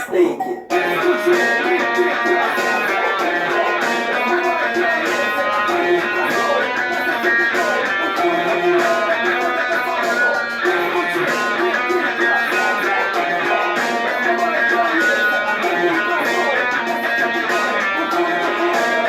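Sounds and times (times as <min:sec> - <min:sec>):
guitar plucking and strumming: 0:00.7 - 0:19.0.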